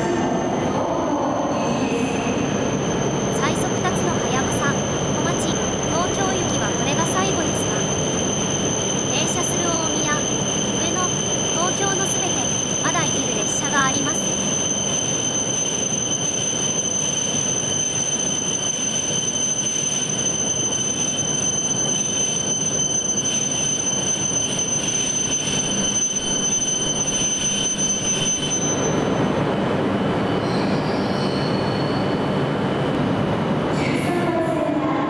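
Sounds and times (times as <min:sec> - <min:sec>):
high-pitched whine: 0:00.0 - 0:35.0.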